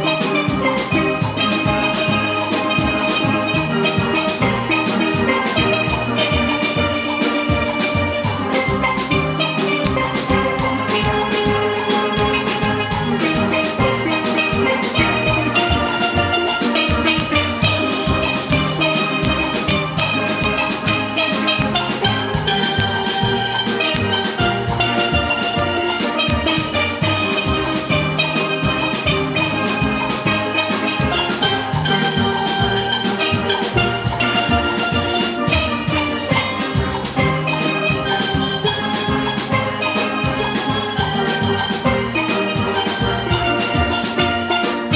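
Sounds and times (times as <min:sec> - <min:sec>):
drum kit beat: 0:00.0 - 0:44.9
steelpans playing melody: 0:00.0 - 0:44.9.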